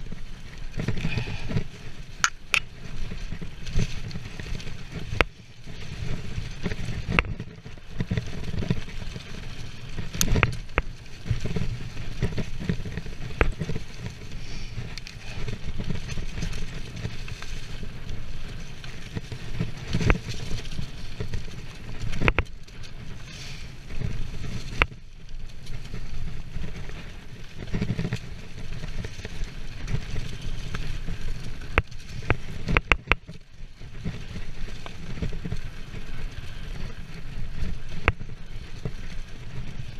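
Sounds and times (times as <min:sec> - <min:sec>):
bike rattling over bumps: 0:00.0 - 0:39.9
bike tyres rolling on dirt: 0:00.0 - 0:39.9.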